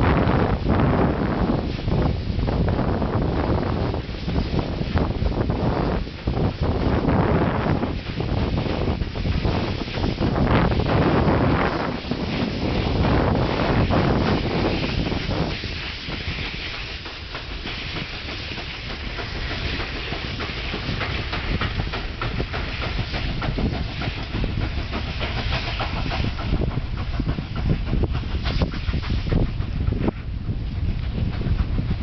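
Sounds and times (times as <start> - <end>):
steam locomotive passing: 0.0 - 32.0
wind buffeting microphone: 0.0 - 32.0
wheels clicking on rails: 1.5 - 32.0.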